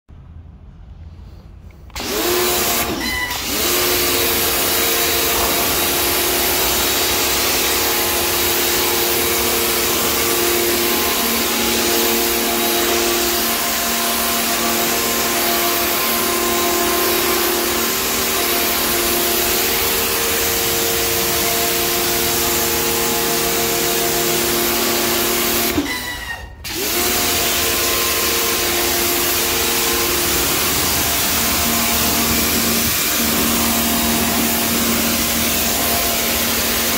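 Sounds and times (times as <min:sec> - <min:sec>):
pressure washer running: 0:01.9 - 0:36.9
water jet hissing on tiles: 0:02.0 - 0:26.0, 0:26.8 - 0:36.9.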